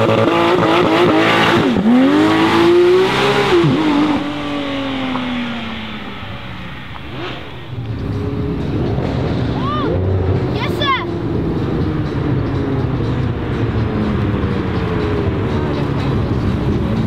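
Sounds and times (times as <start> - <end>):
another car engine: 0.0 - 17.0
car engine accelerating: 0.0 - 17.0.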